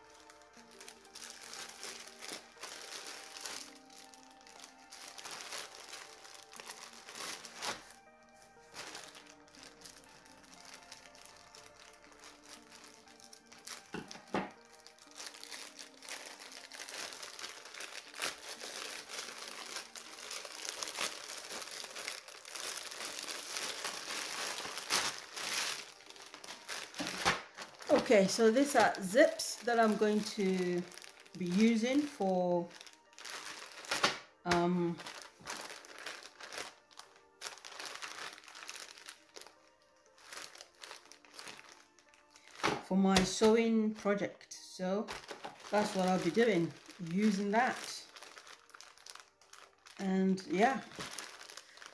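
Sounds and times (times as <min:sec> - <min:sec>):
packaging rustling and crackling: 0:00.0 - 0:43.6, 0:45.0 - 0:51.9
quiet background music: 0:00.0 - 0:51.9.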